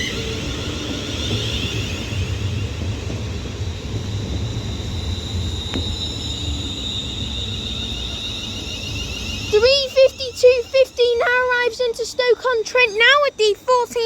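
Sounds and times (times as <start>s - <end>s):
electric train rumble and whine: 0.0s - 14.0s.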